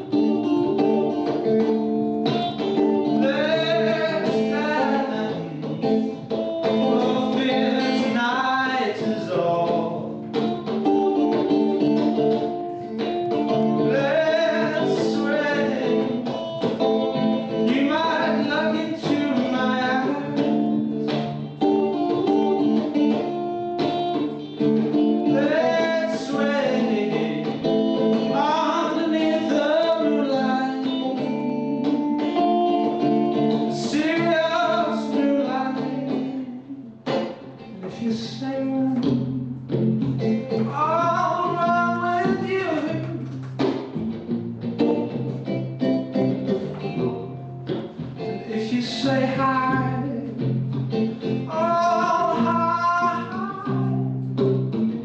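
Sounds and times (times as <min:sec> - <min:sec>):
person singing: 0:00.0 - 0:01.8, 0:02.5 - 0:23.3, 0:24.2 - 0:43.6, 0:46.2 - 0:54.3
acoustic guitar playing: 0:00.0 - 0:55.0.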